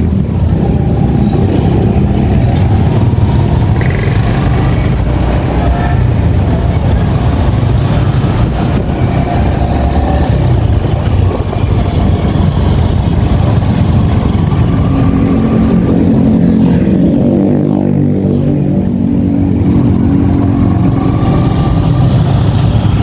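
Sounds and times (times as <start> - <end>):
motorcycle engine running: 0.0 - 23.0
wind rushing on microphone: 0.0 - 23.0.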